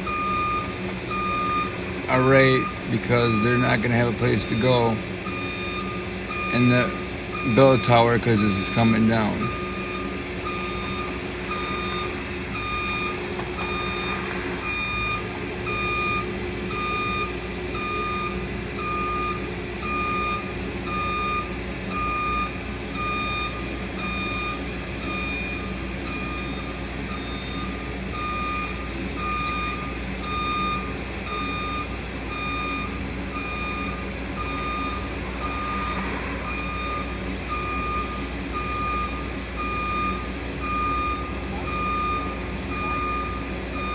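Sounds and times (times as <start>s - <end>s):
backup alarm beeping: 0.0s - 43.9s
diesel engine running: 0.0s - 43.9s.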